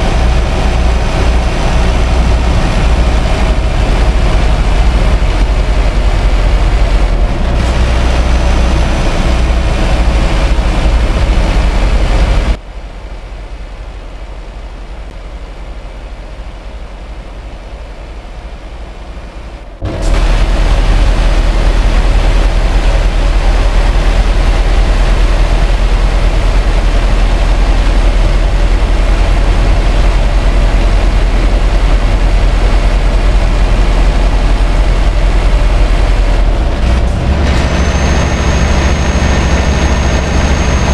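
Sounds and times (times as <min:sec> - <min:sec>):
road noise: 0:00.0 - 0:40.9
truck diesel engine rumbling: 0:00.0 - 0:40.9.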